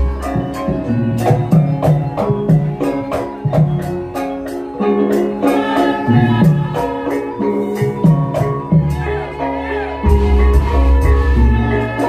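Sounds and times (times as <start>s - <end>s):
gamelan music: 0.0s - 12.0s
jingling percussion: 0.0s - 12.0s.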